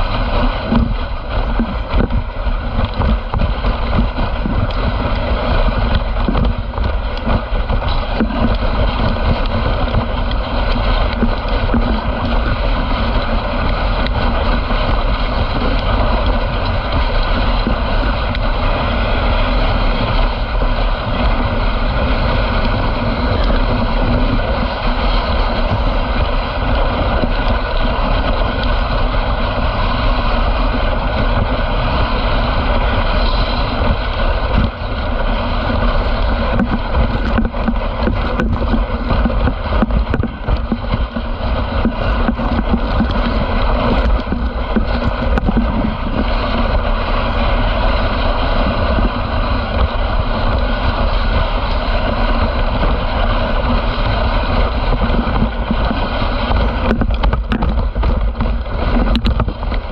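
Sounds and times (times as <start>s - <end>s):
sled runners rushing on snow: 0.0s - 59.9s
wind on microphone: 0.0s - 59.9s.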